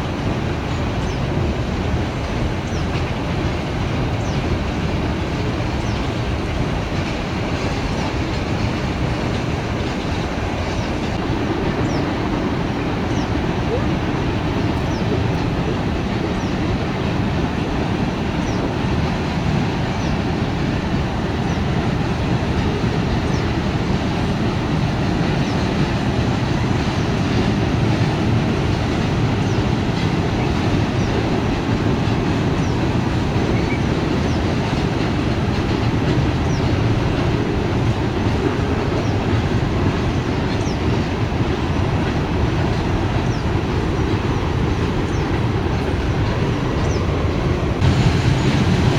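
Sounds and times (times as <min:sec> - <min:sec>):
train wheels rumbling on rail: 0:00.0 - 0:48.9.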